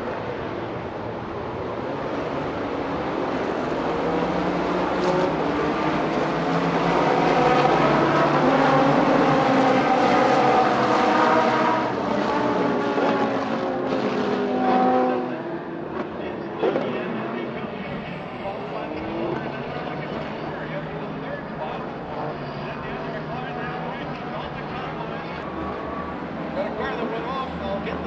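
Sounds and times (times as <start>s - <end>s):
race cars at speed: 0.0s - 28.0s.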